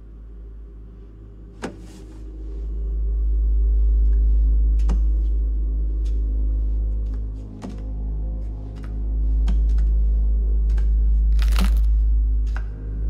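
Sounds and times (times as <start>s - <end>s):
deep ominous drone: 0.0s - 13.0s
steady humming tones: 0.0s - 13.0s.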